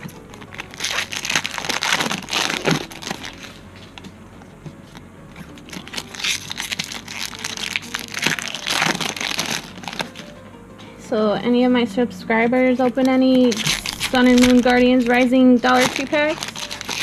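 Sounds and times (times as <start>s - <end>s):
foil wrappers crinkling and tearing: 0.0s - 4.1s, 4.9s - 10.4s, 12.8s - 17.0s.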